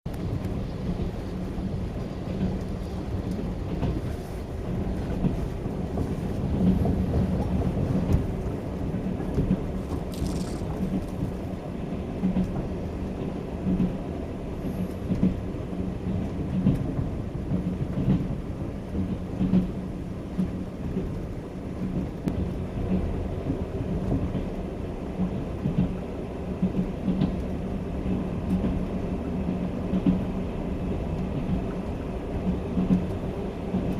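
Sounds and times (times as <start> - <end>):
train rumbling inside carriage: 0.1 - 33.9.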